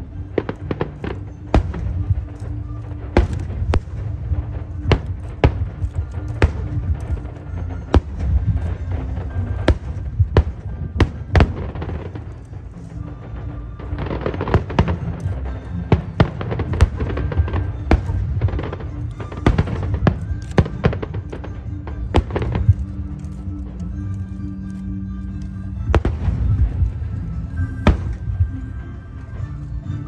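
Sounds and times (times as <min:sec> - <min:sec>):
fireworks bangs: 0:00.0 - 0:23.8, 0:25.9 - 0:29.4
music playing: 0:00.0 - 0:30.0.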